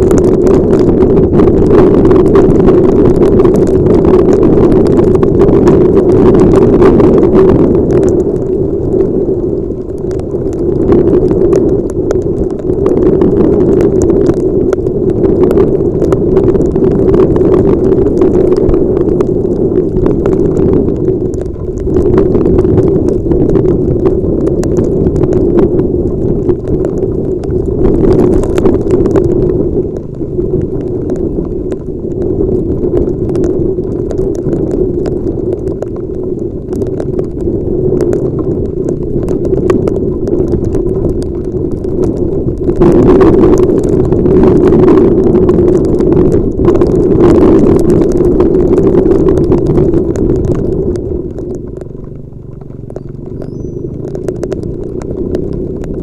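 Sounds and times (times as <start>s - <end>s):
raindrops striking camera: 0.0s - 56.0s
wind and riding noise: 0.0s - 56.0s.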